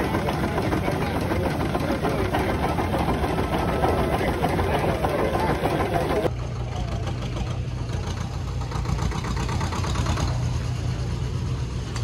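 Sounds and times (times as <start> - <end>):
steam engine running: 0.0 - 11.9.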